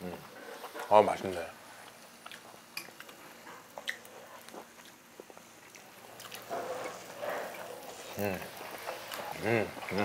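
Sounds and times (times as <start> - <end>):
close chewing: 1.8 - 10.0.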